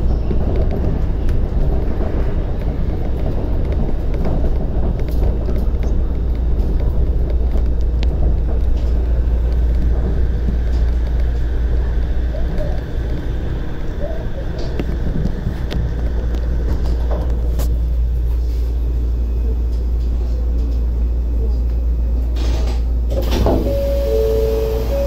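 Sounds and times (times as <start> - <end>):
monorail running rumble: 0.0 - 25.0.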